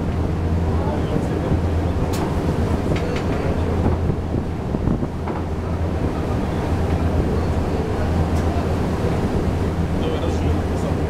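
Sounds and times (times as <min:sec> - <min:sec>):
ship engine drone: 0:00.0 - 0:11.0
wind buffeting microphone: 0:00.0 - 0:11.0.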